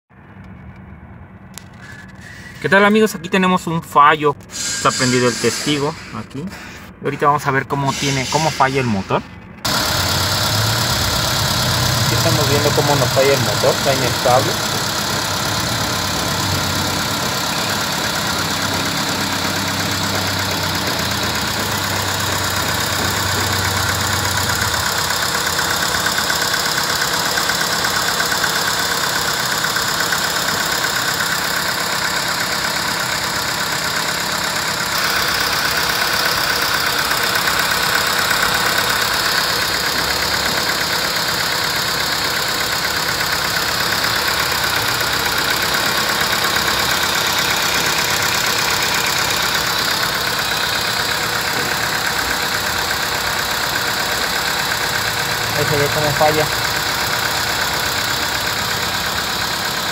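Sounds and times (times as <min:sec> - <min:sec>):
car engine idling unevenly: 0:01.4 - 0:59.9.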